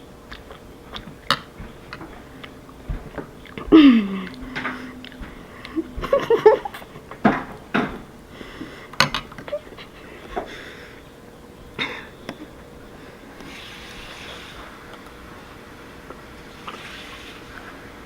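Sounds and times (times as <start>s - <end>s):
eating sounds: 0.0s - 17.9s
faint steady hiss: 0.0s - 18.0s.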